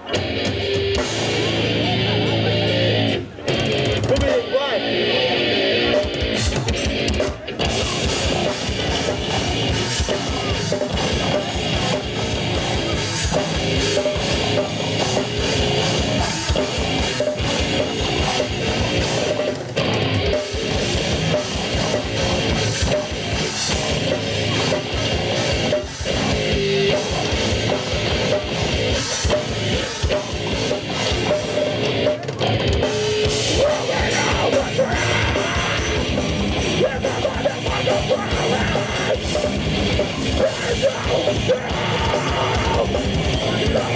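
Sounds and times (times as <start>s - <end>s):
fast drumming on drum kit: 0.0s - 4.5s, 5.9s - 43.9s
electric guitars: 0.0s - 43.9s.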